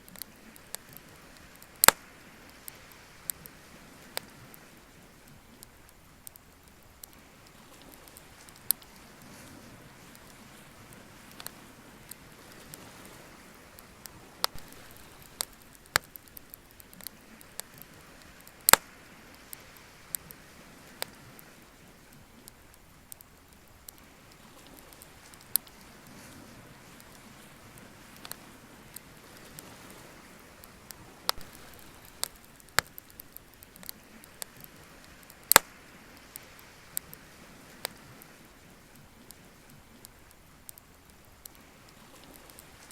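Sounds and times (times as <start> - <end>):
bonfire crackling: 0.0 - 42.9
low steady hiss: 0.0 - 42.9.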